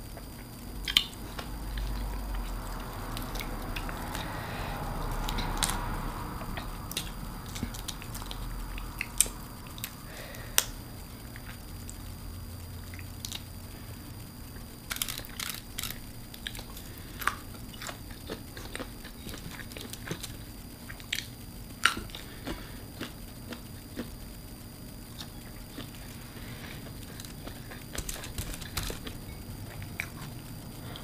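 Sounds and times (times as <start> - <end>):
person chewing seafood: 0.2 - 12.1, 14.6 - 24.2, 25.1 - 31.0.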